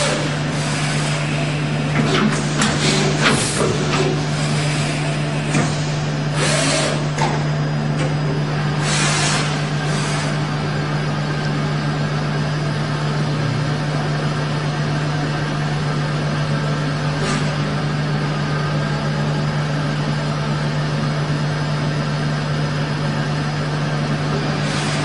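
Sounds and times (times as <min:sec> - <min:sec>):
machine drone with low hum: 0:00.0 - 0:25.0.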